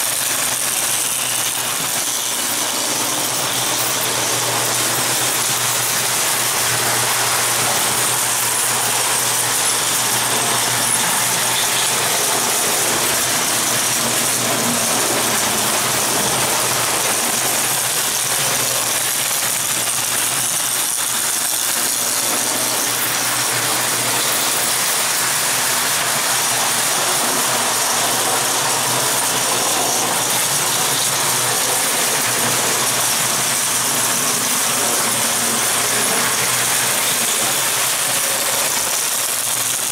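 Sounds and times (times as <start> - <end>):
toy train motors and wheels: 0.0 - 39.9.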